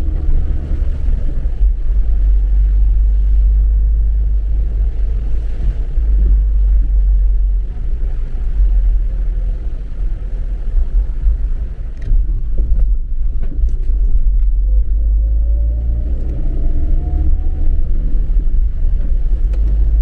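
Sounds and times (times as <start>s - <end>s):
car engine and tyres rumble: 0.0s - 20.0s.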